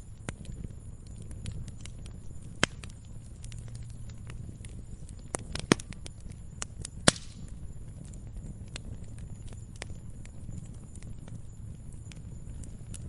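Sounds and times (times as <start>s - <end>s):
fire crackling: 0.0s - 13.0s
loud sharp fire pops: 0.0s - 13.0s
low fire rumble: 0.0s - 13.0s.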